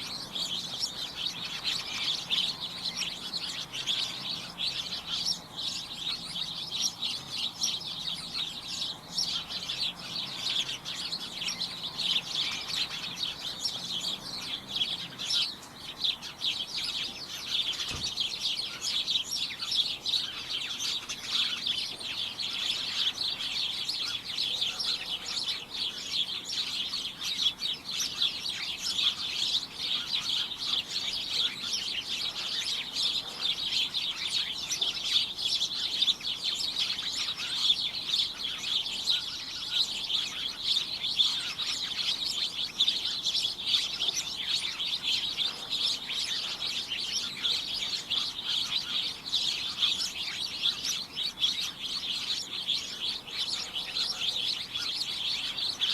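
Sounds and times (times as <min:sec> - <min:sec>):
small birds chirping and twittering: 0:00.0 - 0:55.9.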